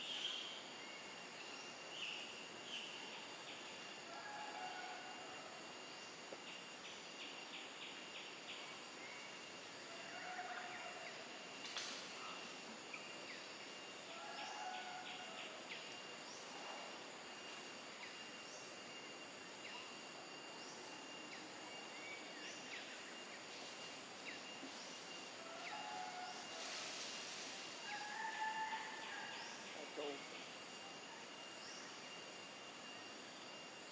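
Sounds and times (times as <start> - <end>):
faint hiss: 0.0 - 33.9
high insect drone: 0.0 - 33.9.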